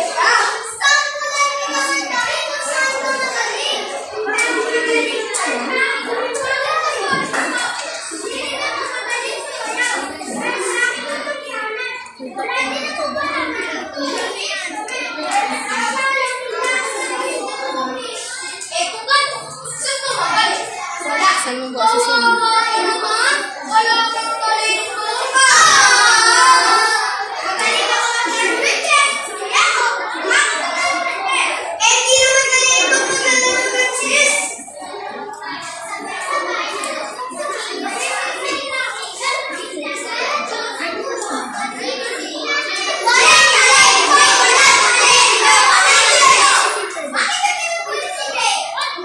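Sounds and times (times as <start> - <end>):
children singing: 0.0 - 49.0
high gliding children's voices: 0.0 - 49.0.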